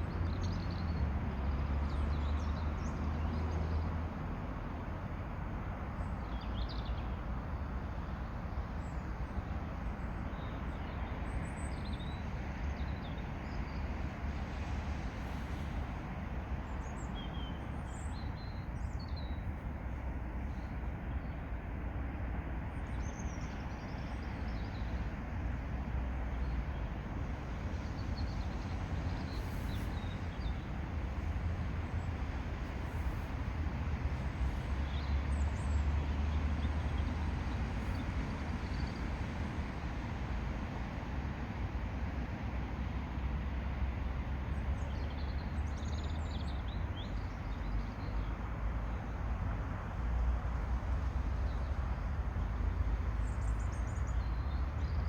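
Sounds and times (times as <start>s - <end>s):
low outdoor rumble: 7.1s - 55.0s.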